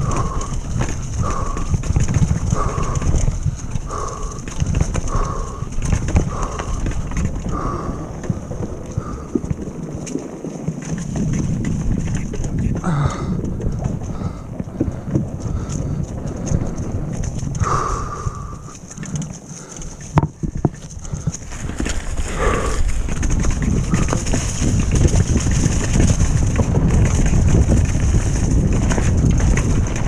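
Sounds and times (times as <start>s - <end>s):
bike tyres rumbling: 0.0s - 30.0s
wind on microphone: 0.0s - 30.0s.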